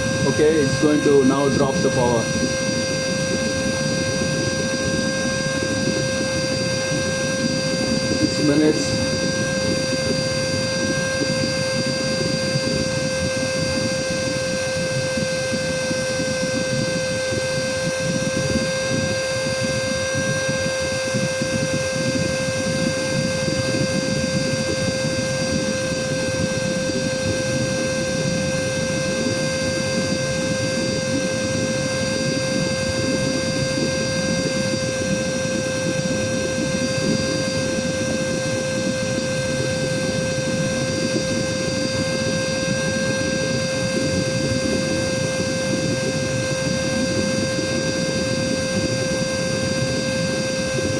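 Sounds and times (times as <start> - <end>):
vacuum cleaner motor whining: 0.0 - 50.9.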